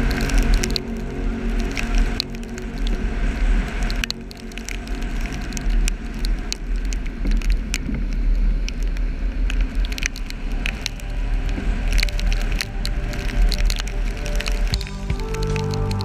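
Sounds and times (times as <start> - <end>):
car rumble on wet road: 0.0 - 16.0
raindrops ticking: 0.0 - 16.0.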